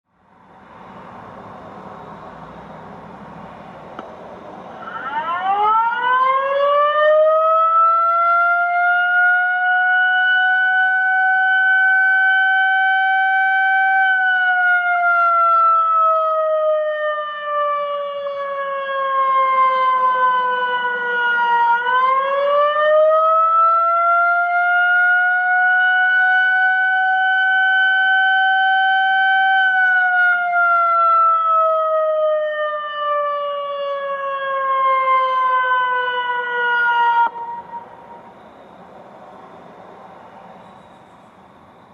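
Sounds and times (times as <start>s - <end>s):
fire siren wailing: 4.6s - 41.9s.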